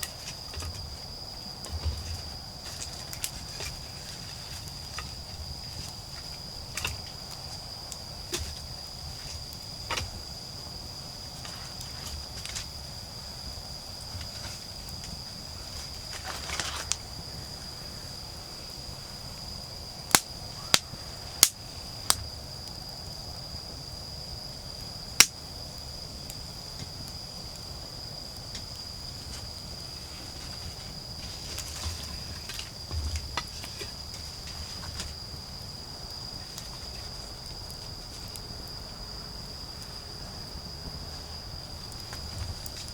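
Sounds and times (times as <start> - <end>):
wood fire popping and cracking: 0.0 - 18.4, 19.6 - 23.8, 24.6 - 38.9, 41.4 - 42.9
insects trilling: 0.0 - 42.9.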